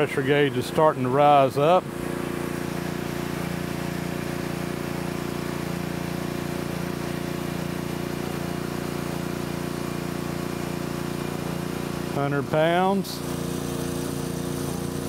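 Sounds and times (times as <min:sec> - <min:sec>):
pressure washer humming: 0:00.0 - 0:15.0.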